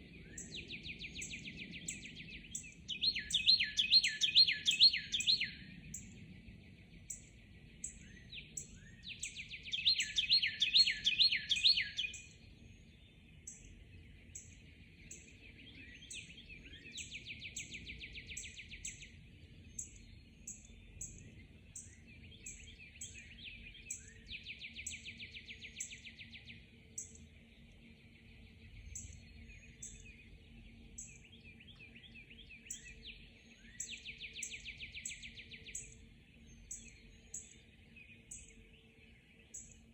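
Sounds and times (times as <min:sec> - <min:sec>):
songbird song of repeated notes: 0:00.0 - 0:39.9.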